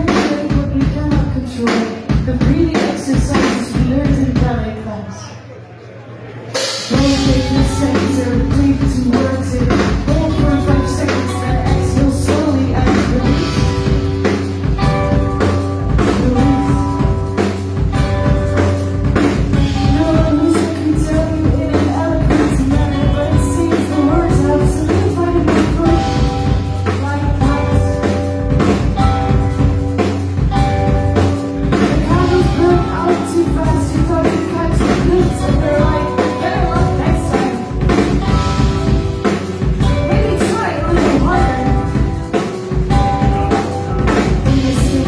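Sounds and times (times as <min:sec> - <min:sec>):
drum kit steady beat: 0:00.0 - 0:04.7, 0:06.5 - 0:45.0
live band playing: 0:00.0 - 0:05.2, 0:06.3 - 0:45.0
guitar and bass notes: 0:06.9 - 0:45.0.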